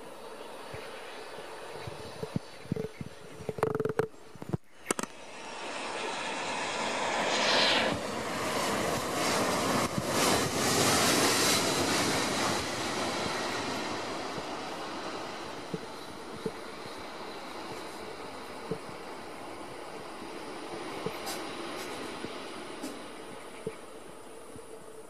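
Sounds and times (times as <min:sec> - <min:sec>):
jet airliner landing: 0:00.0 - 0:03.6, 0:04.4 - 0:25.0
high engine whine: 0:00.0 - 0:25.0.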